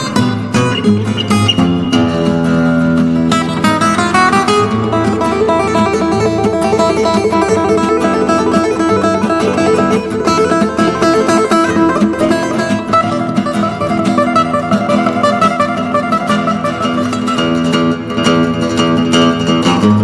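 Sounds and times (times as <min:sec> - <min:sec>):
fast acoustic guitar music: 0:00.0 - 0:20.0.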